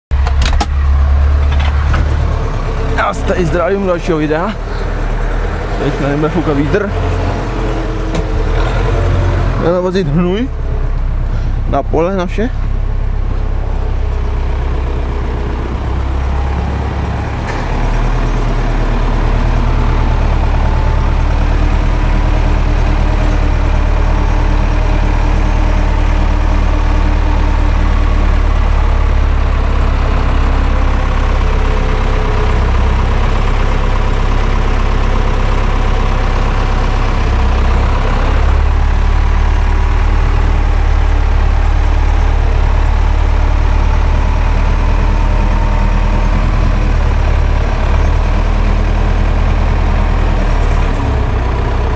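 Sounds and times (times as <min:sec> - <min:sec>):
tractor diesel engine rumbling: 0:00.1 - 0:51.9.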